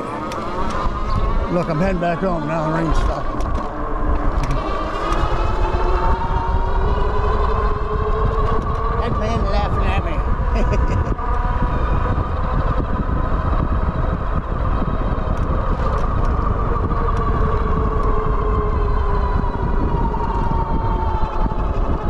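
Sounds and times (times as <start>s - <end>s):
electric bike motor whining: 0.0s - 22.0s
wind and road noise: 0.0s - 22.0s.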